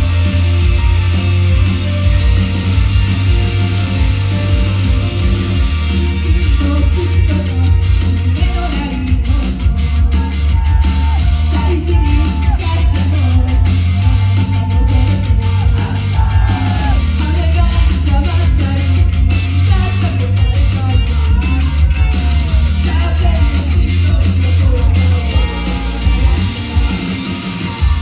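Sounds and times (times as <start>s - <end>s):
guitar-driven rock music: 0.0s - 28.0s.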